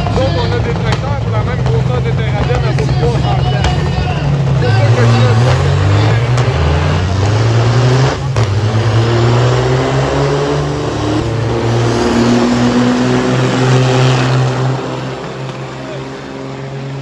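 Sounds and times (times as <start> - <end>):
diesel truck engines at full throttle: 0.0 - 17.0.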